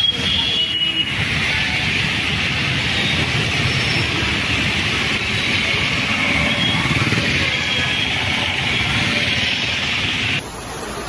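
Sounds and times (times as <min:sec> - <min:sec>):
heavy rain: 0:00.0 - 0:11.0
passing vehicle engines: 0:00.0 - 0:11.0
tyres on wet road: 0:00.0 - 0:11.0.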